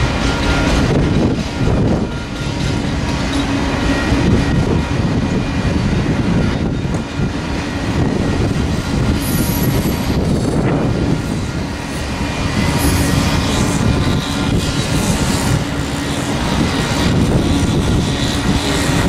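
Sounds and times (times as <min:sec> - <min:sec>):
train wheels rumbling on rails: 0:00.0 - 0:19.0
high-pitched wheel squeals: 0:00.2 - 0:19.0.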